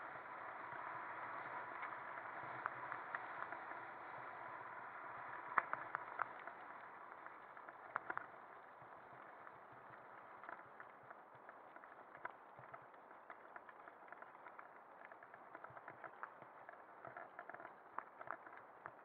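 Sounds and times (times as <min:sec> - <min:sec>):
stones and bike clicking: 0:00.0 - 0:19.0.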